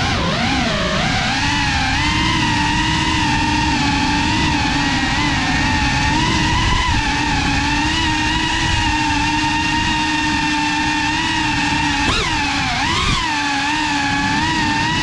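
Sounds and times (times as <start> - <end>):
drone motors whining: 0.0 - 15.0
rumbling wind noise: 0.0 - 15.0.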